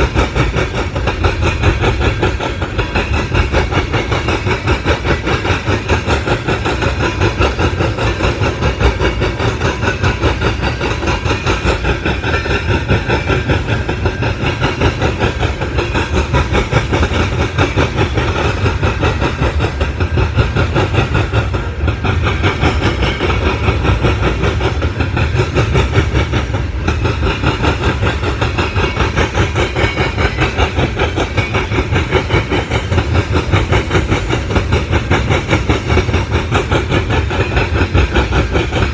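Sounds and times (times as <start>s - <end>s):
freight train rumbling on rails: 0.0s - 38.9s.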